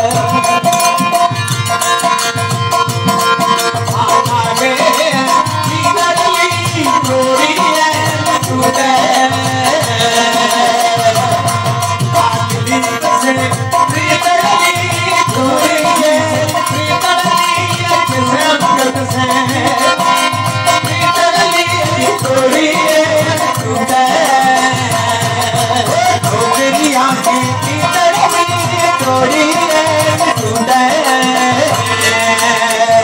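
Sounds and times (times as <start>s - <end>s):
harmonium chords: 0.0s - 33.0s
man singing: 0.0s - 33.0s.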